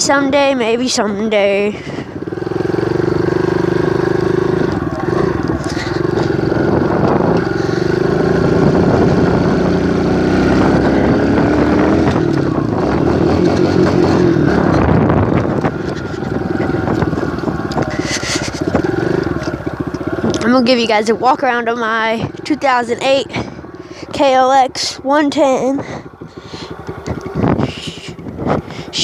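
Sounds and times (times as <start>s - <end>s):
dirt bike engine revving: 1.7s - 29.0s.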